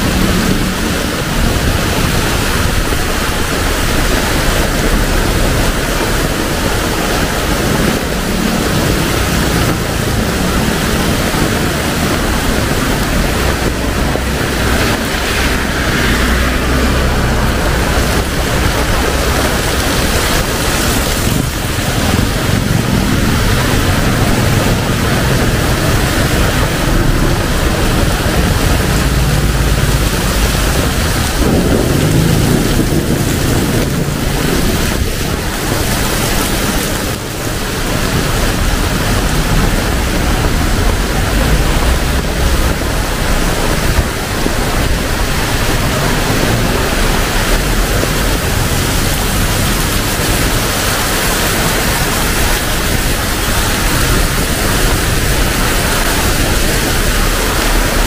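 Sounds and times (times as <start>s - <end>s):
heavy rain on pavement: 0.0s - 58.0s
low rumble: 0.0s - 58.0s.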